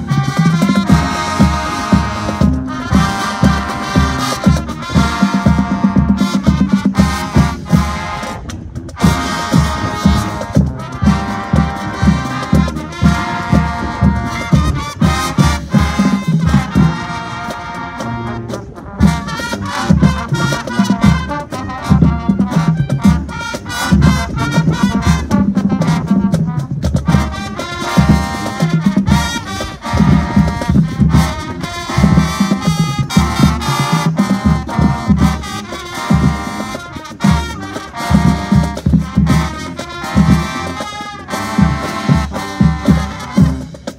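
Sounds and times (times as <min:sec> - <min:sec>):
brass section: 0:00.0 - 0:43.9
marching band playing: 0:00.0 - 0:43.9
steady drum beat: 0:00.0 - 0:43.9.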